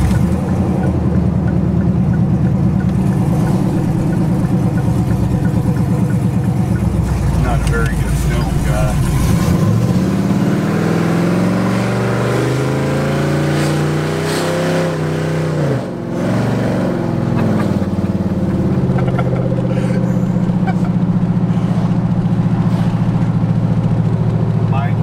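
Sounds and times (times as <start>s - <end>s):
loud engine revving: 2.5s - 24.9s.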